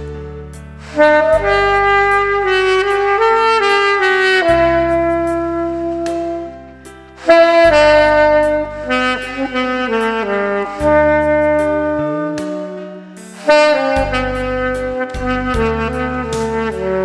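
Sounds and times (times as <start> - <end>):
backing track with bass and drums: 0.0 - 17.0
saxophone melody: 0.0 - 17.0.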